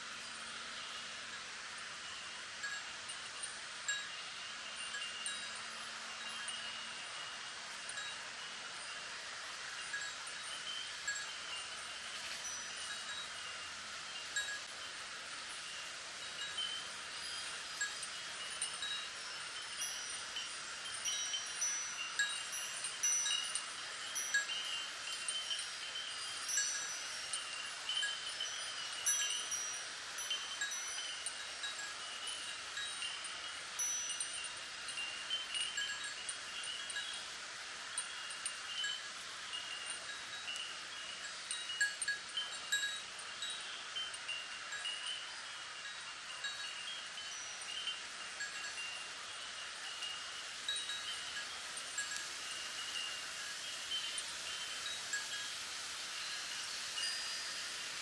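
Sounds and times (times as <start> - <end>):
wind chimes tinkling: 0.0 - 58.0
wind rustling bamboo leaves: 0.0 - 58.0.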